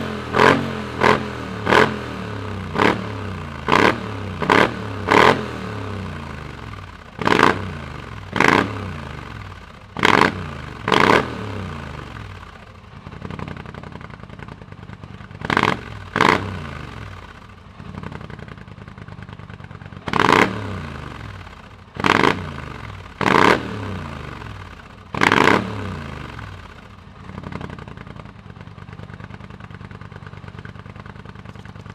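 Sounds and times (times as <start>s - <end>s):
atv engine revving and idling: 0.0s - 31.9s.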